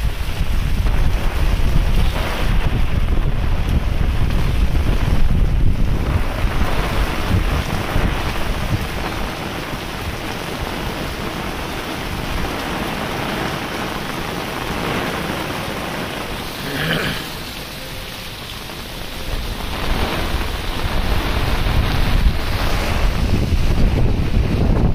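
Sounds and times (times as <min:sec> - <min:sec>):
wind buffeting microphone: 0:00.0 - 0:16.6, 0:17.4 - 0:24.9
heavy rain on water and paving: 0:00.0 - 0:24.9.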